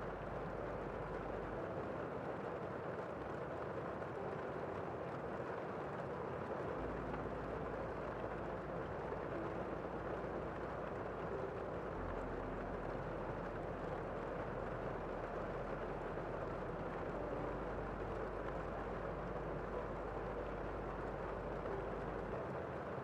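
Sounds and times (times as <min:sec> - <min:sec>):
faint low rumble: 0:00.0 - 0:23.0
muffled rain patter: 0:00.0 - 0:23.0.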